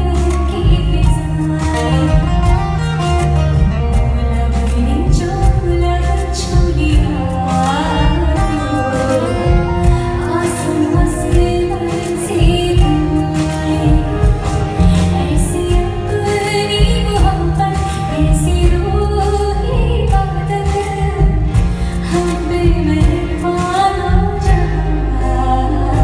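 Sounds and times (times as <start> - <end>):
live pop band: 0.0 - 26.0
woman singing into microphone: 0.0 - 26.0.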